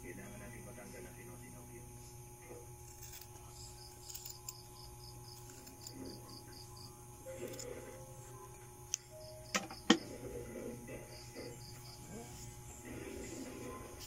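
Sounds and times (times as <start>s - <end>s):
steady low hum: 0.0s - 14.0s
insect chirping: 2.5s - 14.0s.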